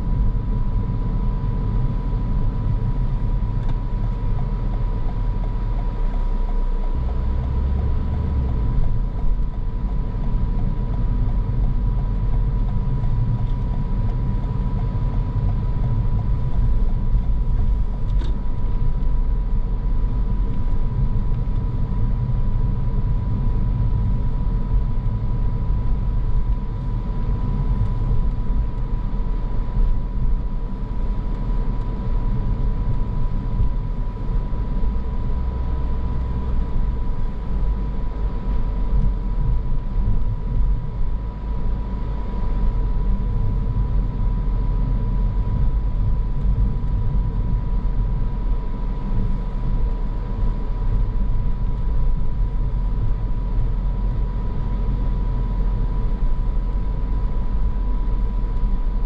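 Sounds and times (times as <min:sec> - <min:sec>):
car engine and tyre rumble: 0:00.0 - 0:59.0
thin steady whine: 0:00.0 - 0:59.0.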